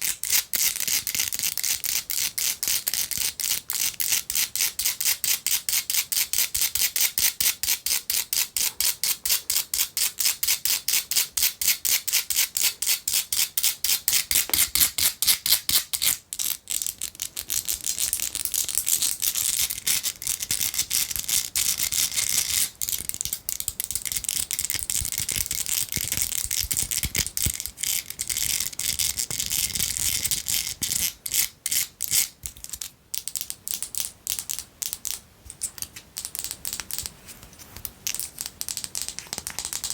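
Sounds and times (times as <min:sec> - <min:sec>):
scratching on glass bottle: 0:00.0 - 0:39.9.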